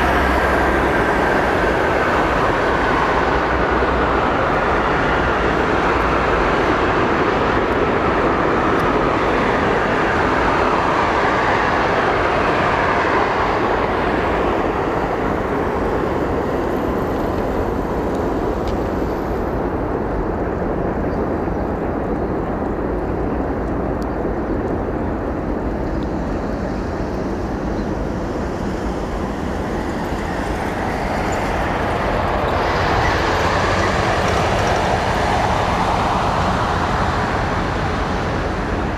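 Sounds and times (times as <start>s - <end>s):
jet engine noise: 0.0s - 38.9s.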